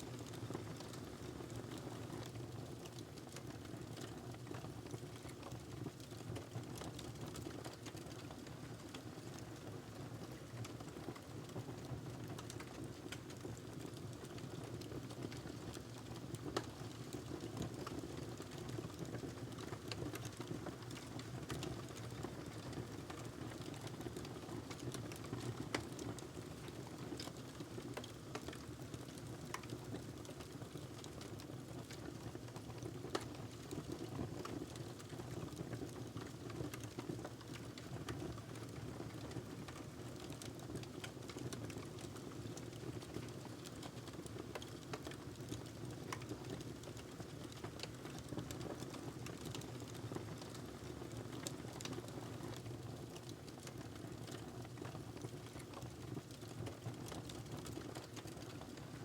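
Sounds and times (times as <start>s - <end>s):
wood fire crackling: 0.1s - 59.0s
fire pops and snaps: 10.4s - 59.0s.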